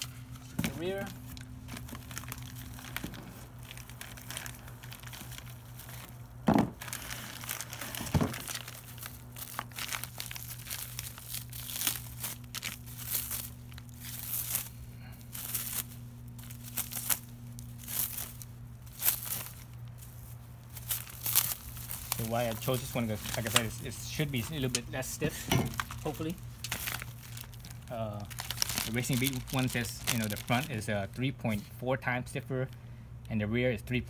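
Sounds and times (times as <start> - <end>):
plastic wrapping crinkling and tearing: 0.0 - 31.7.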